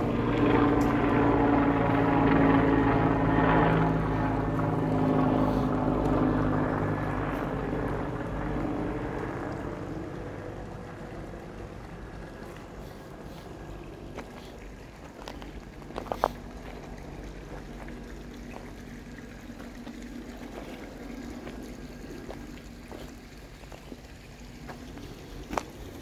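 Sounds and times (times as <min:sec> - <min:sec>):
footsteps on dirt trail: 0:00.0 - 0:09.6, 0:12.4 - 0:24.0, 0:24.6 - 0:25.8
creek trickling over rocks: 0:00.0 - 0:26.0.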